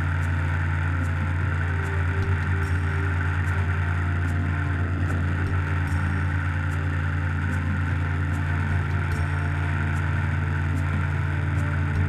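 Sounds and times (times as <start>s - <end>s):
constant hiss: 0.0s - 12.0s
steady machine hum: 0.0s - 12.0s.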